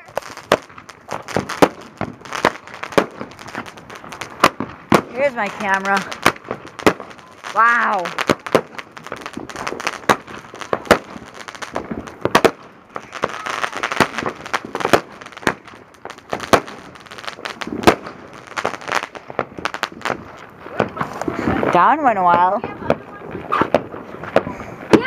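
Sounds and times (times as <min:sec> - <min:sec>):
fireworks bangs and pops: 0:00.0 - 0:25.0
fireworks crackle: 0:00.0 - 0:25.0.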